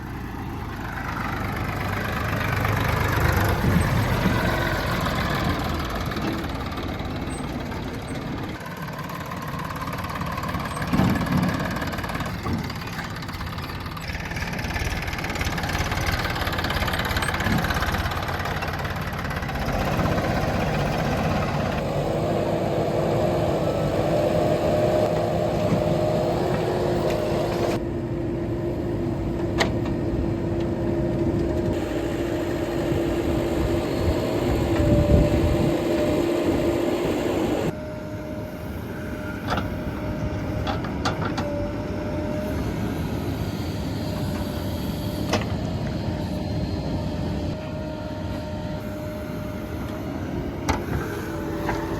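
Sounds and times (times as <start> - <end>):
heavy diesel machinery engines: 0.0 - 51.9.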